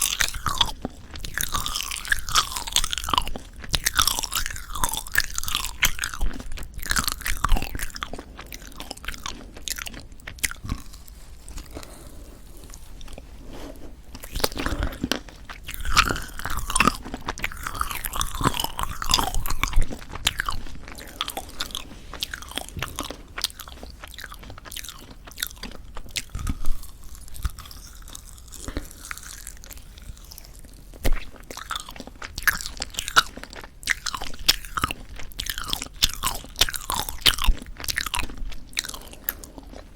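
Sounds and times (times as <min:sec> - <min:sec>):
squelchy chewing: 0:00.0 - 0:39.9.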